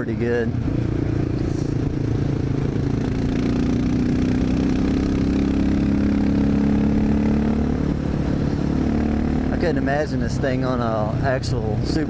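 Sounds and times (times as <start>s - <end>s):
single-cylinder motorcycle engine: 0.0s - 12.0s.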